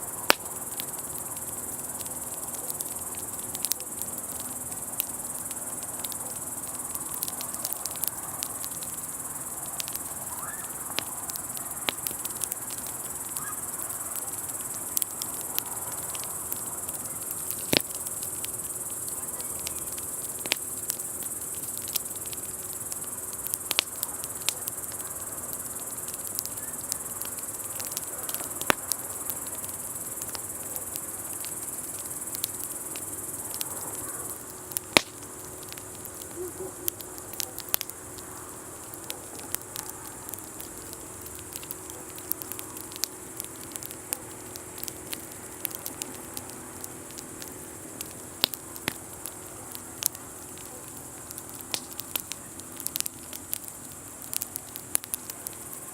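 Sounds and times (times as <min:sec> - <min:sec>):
campfire crackling and popping: 0:00.0 - 0:55.9
crickets chirring: 0:00.0 - 0:55.9.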